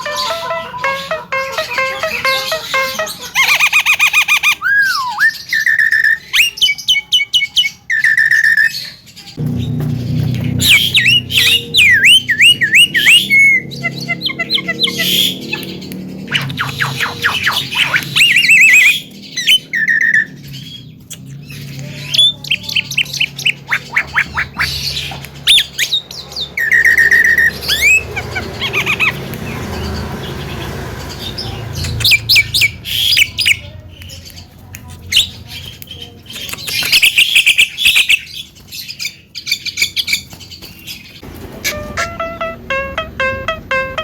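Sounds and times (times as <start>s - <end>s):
bird singing varied song: 0.0s - 44.0s.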